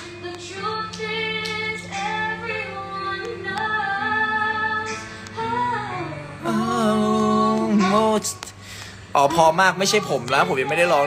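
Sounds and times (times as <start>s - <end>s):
backing music: 0.0s - 11.0s
high voice singing: 0.6s - 11.0s.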